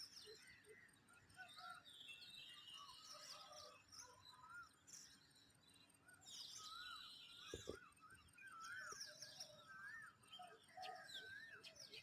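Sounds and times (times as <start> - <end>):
birds whistling and chirping: 0.0 - 12.0.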